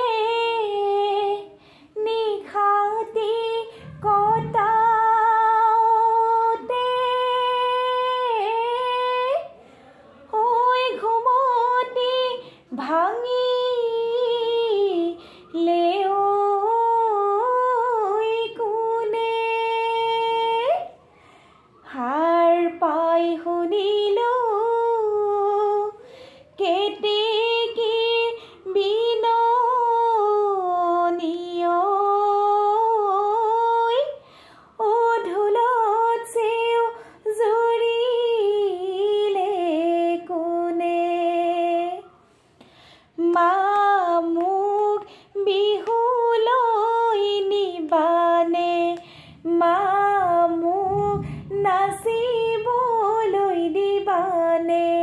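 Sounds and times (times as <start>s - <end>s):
woman singing unaccompanied: 0.0s - 9.6s, 10.2s - 21.0s, 21.8s - 42.2s, 43.1s - 55.0s.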